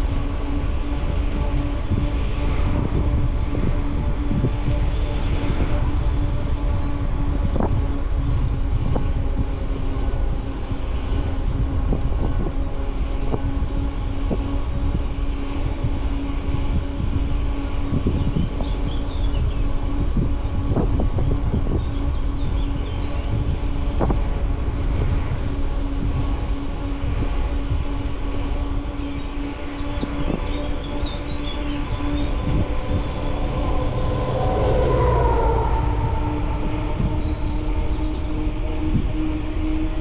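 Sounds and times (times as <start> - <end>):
steady hum: 0.0 - 40.0
wind buffeting microphone: 0.0 - 40.0.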